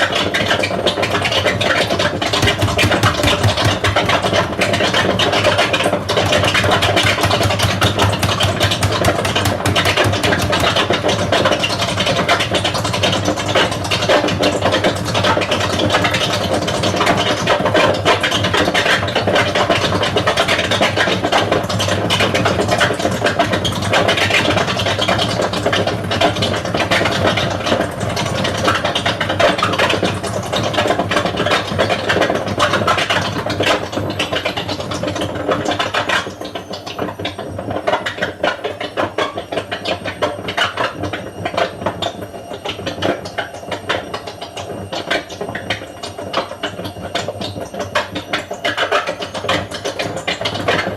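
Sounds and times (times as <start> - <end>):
washing machine spinning: 0.0 - 50.9.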